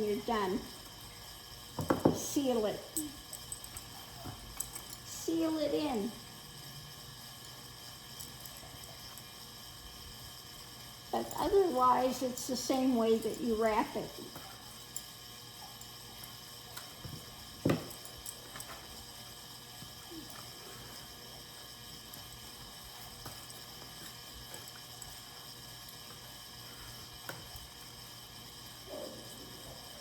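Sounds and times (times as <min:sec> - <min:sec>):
fan humming: 0:00.0 - 0:30.0.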